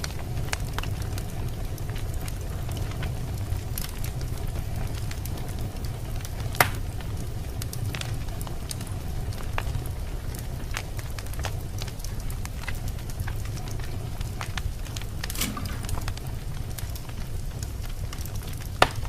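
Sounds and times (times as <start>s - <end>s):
fire crackles and pops: 0.0s - 19.0s
wood fire rumbling: 0.0s - 19.0s.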